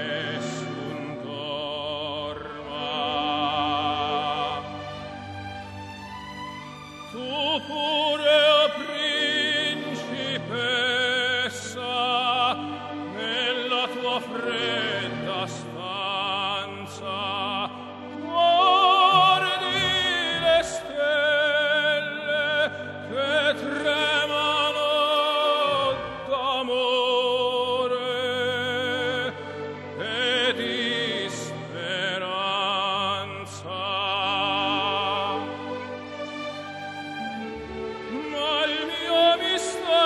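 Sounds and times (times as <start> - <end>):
opera singer with vibrato: 0.0 - 5.1, 7.0 - 35.7, 36.6 - 40.0
orchestral accompaniment: 0.0 - 40.0.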